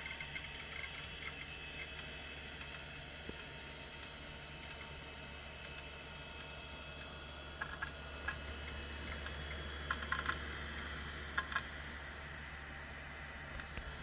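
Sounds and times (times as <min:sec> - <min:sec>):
low equipment hum: 0:00.0 - 0:14.0.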